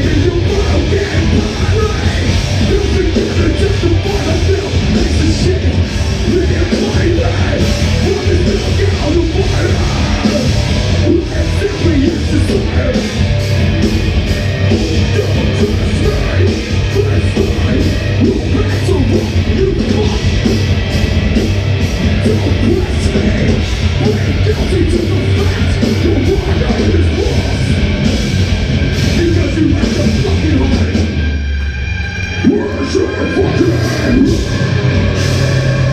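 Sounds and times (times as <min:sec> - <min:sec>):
steady drum beat: 0:00.0 - 0:31.2
rock band playing heavy music: 0:00.0 - 0:35.9.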